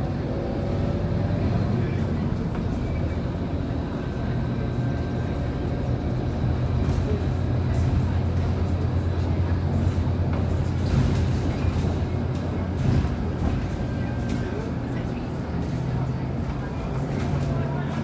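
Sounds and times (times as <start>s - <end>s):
bus diesel engine drone: 0.0s - 18.0s
road and tyre noise: 0.0s - 18.0s.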